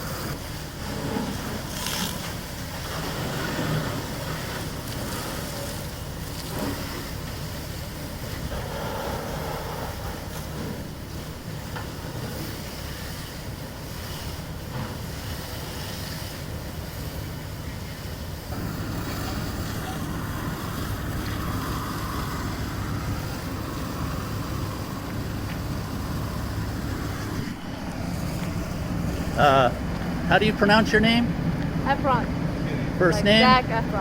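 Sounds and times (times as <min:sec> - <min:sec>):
large vehicle engine droning: 0:00.0 - 0:34.0.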